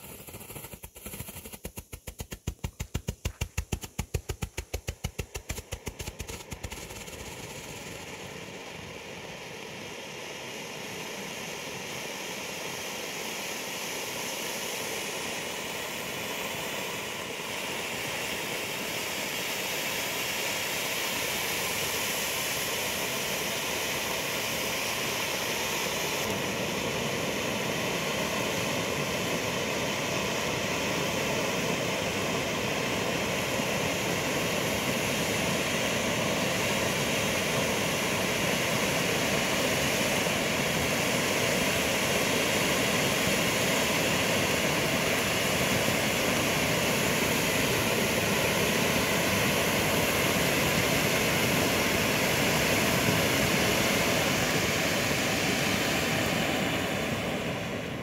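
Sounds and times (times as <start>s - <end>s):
firework fountains hissing: 0.0s - 58.0s.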